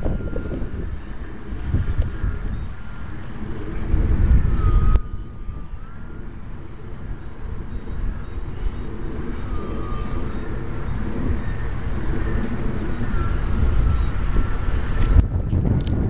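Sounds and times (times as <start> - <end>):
model plane motor whine: 0.0 - 16.0
wind buffeting microphone: 0.0 - 16.0.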